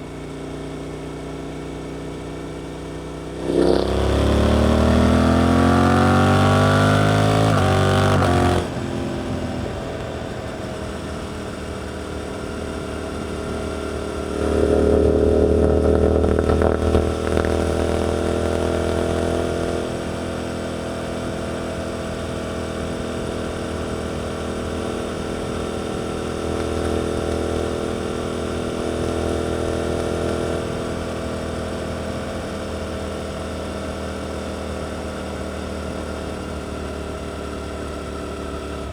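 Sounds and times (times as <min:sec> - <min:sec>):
motorcycle engine revving: 0:00.7 - 0:38.9.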